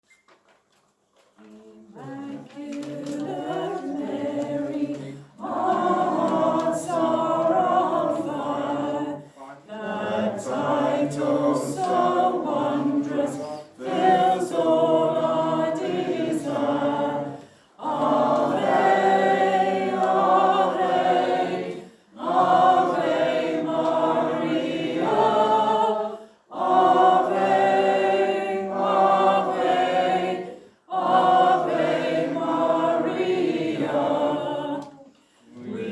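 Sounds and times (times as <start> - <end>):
choir singing a hymn: 1.4 - 35.9.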